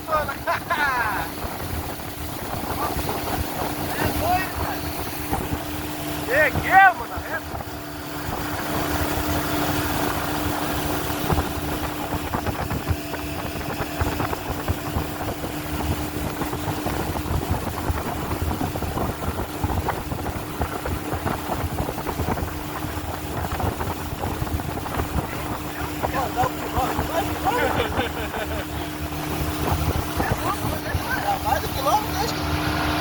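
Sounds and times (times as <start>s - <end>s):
motorboat engine running: 0.0s - 33.0s
rush of wind and water: 0.0s - 33.0s.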